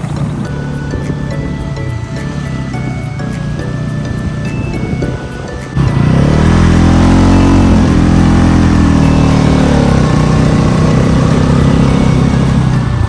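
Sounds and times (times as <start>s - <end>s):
motorcycle engine accelerating: 0.0s - 13.0s
wind and road noise: 0.0s - 13.0s.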